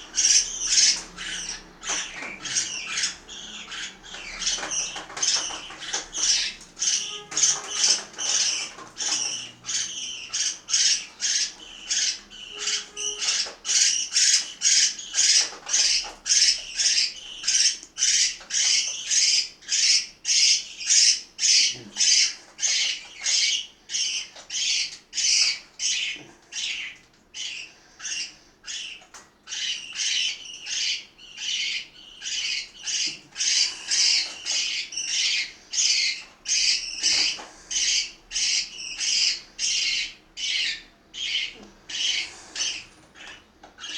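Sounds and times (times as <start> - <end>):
parakeets squawking: 0.0 - 43.9.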